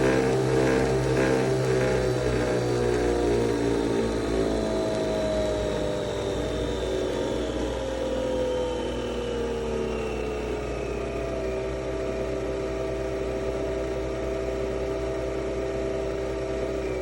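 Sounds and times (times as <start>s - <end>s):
coffee machine motor whirring: 0.0s - 17.0s.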